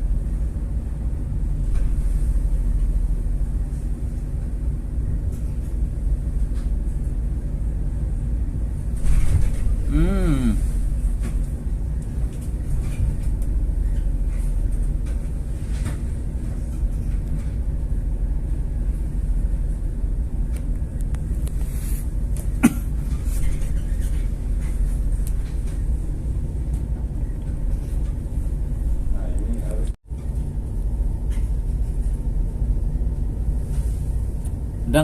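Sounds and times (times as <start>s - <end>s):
ship engine rumbling: 0.0s - 35.0s.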